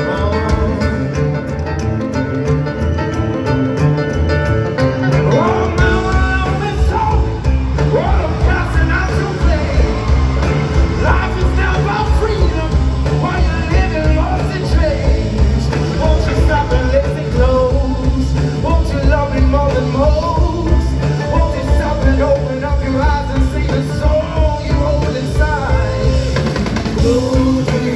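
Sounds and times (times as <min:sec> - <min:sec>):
person singing: 0:00.0 - 0:03.8, 0:04.8 - 0:27.9
live band playing: 0:00.0 - 0:27.9.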